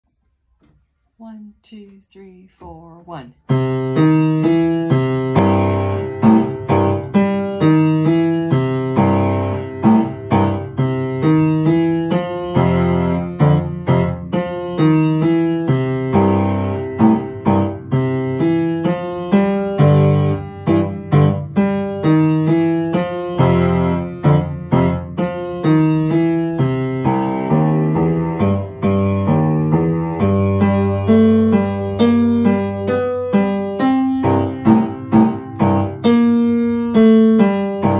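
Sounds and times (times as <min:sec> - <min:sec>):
boogie-woogie piano: 0:03.5 - 0:37.9.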